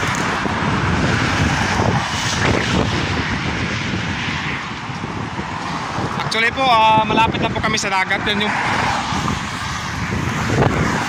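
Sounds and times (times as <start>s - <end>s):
road traffic: 0.0s - 11.0s
vehicle passing: 0.0s - 11.0s
wind on microphone: 0.0s - 11.0s.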